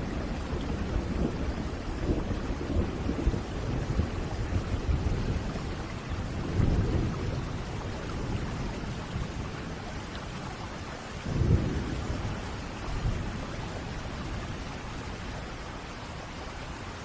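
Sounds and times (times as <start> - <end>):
rolling thunder: 0.0 - 9.9, 11.2 - 15.2
steady rain: 0.0 - 17.0.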